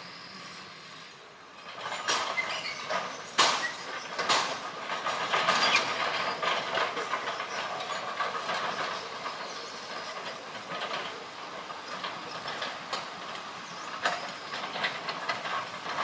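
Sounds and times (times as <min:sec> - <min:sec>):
excavator clattering and grinding: 0:01.4 - 0:16.0.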